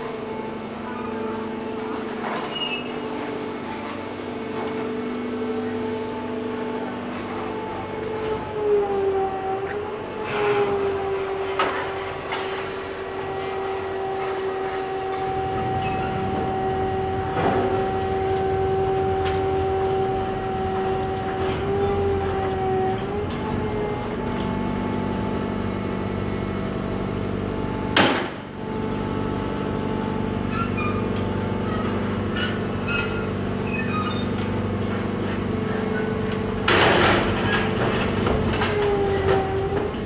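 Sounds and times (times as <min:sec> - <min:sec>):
boat engine and crane whine: 0:00.0 - 0:40.0.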